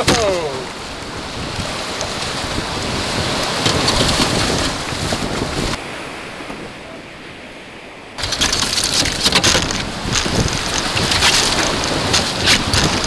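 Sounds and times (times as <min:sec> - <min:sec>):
surf breaking on beach: 0:00.0 - 0:13.0
water rushing and splashing: 0:00.0 - 0:13.0
wind buffeting microphone: 0:00.0 - 0:13.0.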